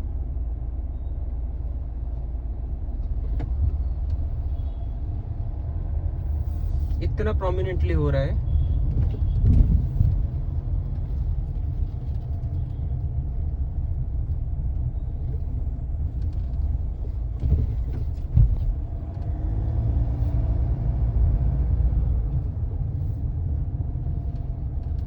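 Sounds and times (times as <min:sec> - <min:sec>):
road rumble inside car: 0:00.0 - 0:25.0.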